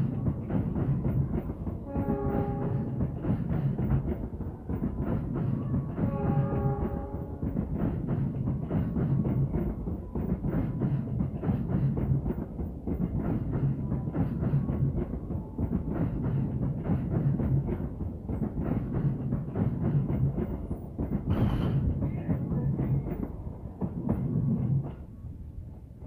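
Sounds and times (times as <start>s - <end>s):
train wheels clacking over rails: 0.0s - 25.1s.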